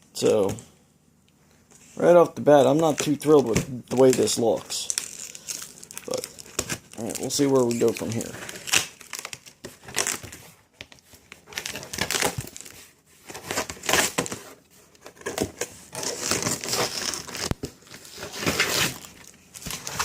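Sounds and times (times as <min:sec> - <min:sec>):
packaging crinkling and rustling: 0:02.7 - 0:20.0.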